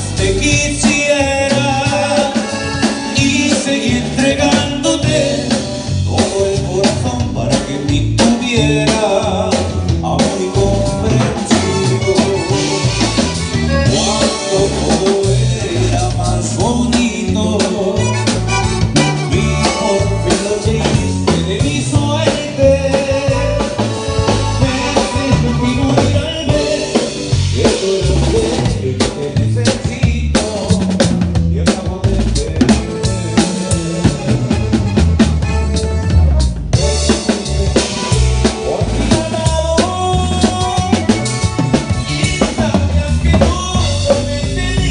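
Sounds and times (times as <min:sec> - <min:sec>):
acoustic guitar: 0:00.0 - 0:44.9
drum kit beat: 0:00.0 - 0:44.9
electric bass: 0:00.0 - 0:44.9.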